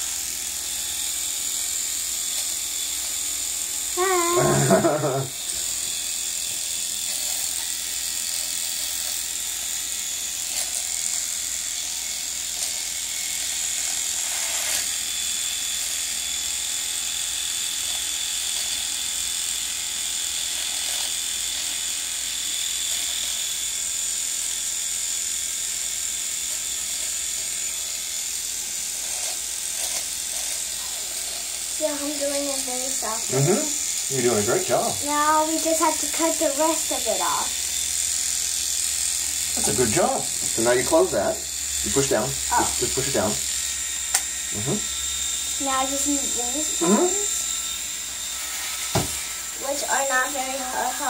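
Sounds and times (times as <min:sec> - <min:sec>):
electric shaver whining: 0:00.0 - 0:51.0.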